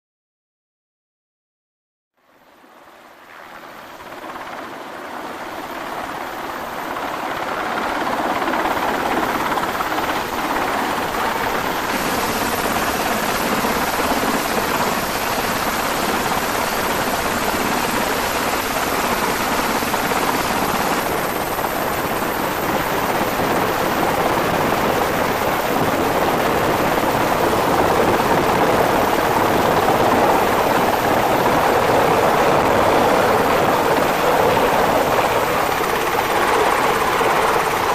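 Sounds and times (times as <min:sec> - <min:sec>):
helicopter rotors and engines: 0:02.9 - 0:37.9.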